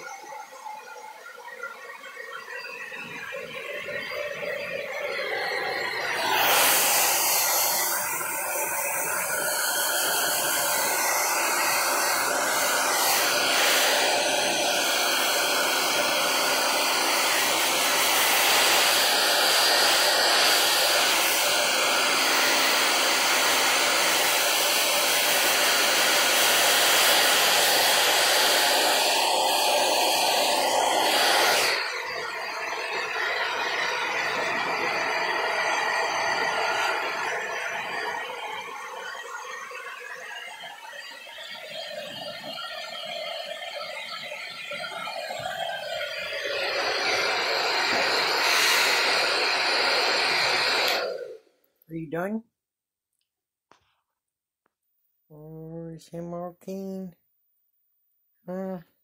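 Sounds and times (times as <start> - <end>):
hair dryer blowing: 0.0 - 51.5.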